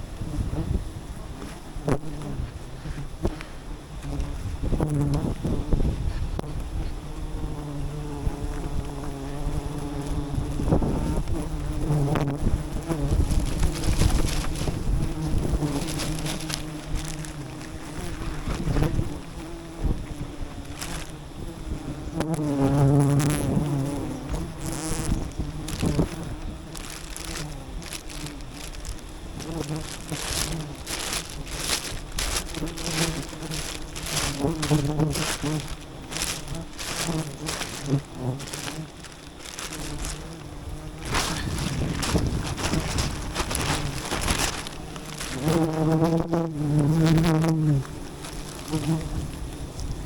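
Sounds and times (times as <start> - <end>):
bees buzzing: 0.0 - 50.0
rustling and crunching: 0.0 - 50.0
wind rumbling on microphone: 0.0 - 50.0.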